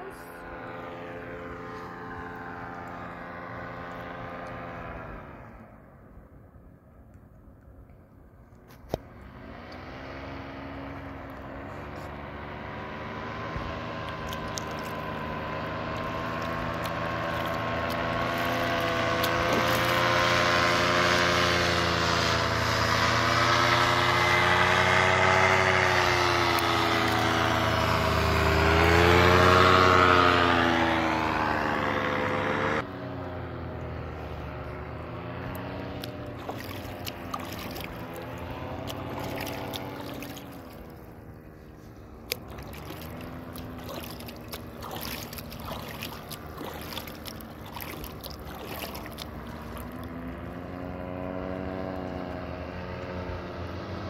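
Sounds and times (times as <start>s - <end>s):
paraglider engine droning: 0.0s - 54.0s.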